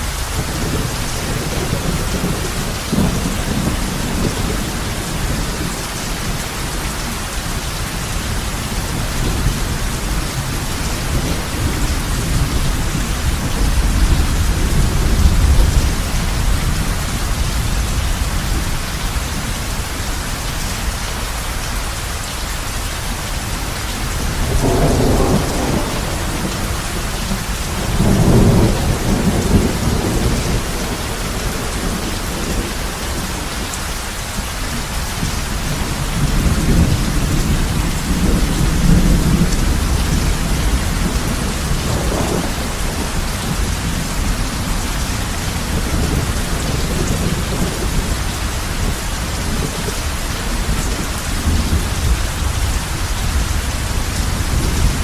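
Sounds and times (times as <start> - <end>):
thunder rumbling: 0.0 - 20.2, 23.6 - 33.6, 34.3 - 55.0
heavy rain on a roof: 0.0 - 55.0.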